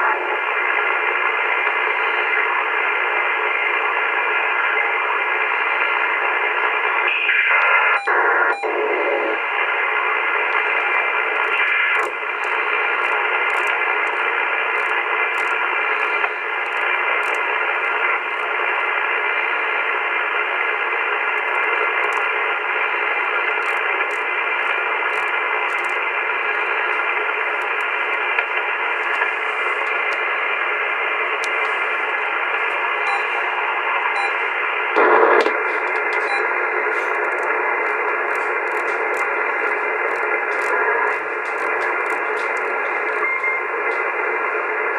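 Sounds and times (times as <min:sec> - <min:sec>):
shortwave radio static: 0:00.0 - 0:44.9.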